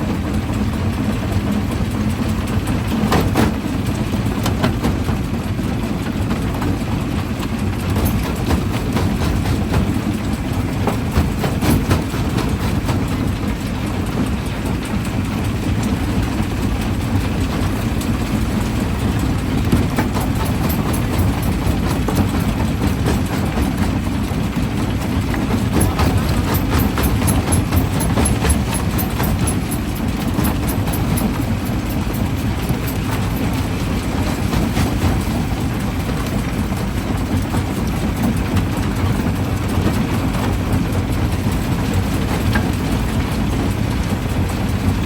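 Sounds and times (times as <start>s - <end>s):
jaw crusher rumbling: 2.6s - 45.0s.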